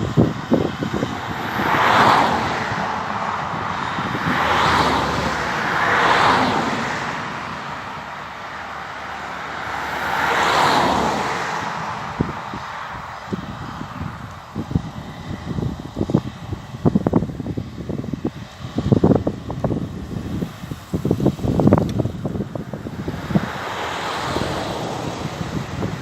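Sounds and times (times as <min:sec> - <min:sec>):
vehicles passing on a road: 0:00.0 - 0:26.0
wind buffeting the microphone: 0:00.0 - 0:26.0.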